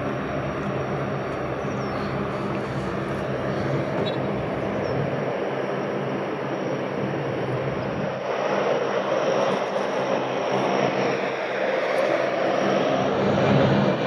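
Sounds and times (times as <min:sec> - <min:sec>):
turboprop propeller drone: 0:00.0 - 0:14.0.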